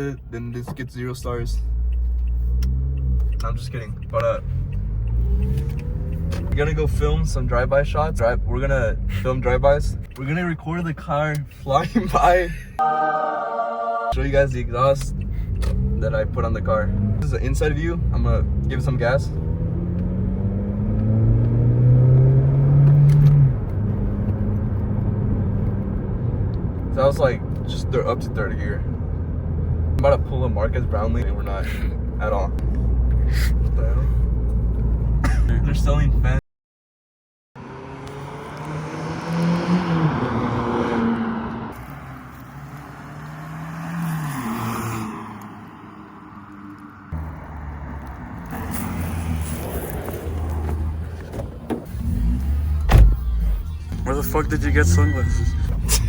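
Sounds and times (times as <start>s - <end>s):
car engine accelerating: 0.0s - 12.3s, 14.2s - 36.4s, 37.6s - 56.0s.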